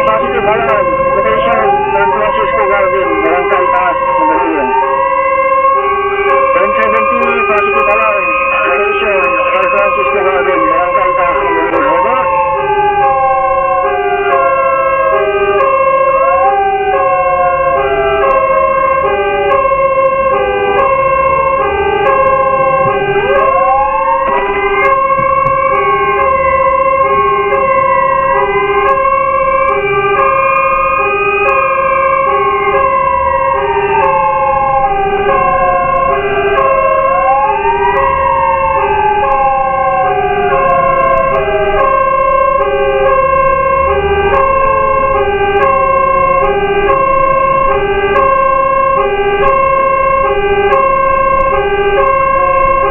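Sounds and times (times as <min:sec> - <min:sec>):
hi-lo siren: 0:00.0 - 0:52.9
wailing siren: 0:00.0 - 0:52.9.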